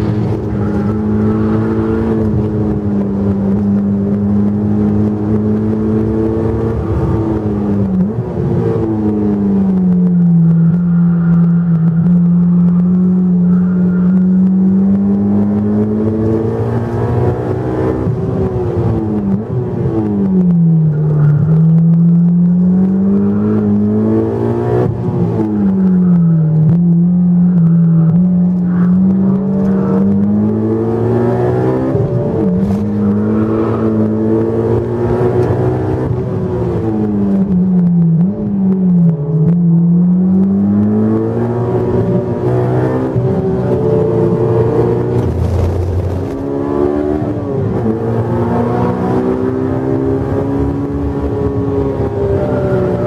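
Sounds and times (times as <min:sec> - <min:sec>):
car engine accelerating and shifting: 0:00.0 - 0:53.0.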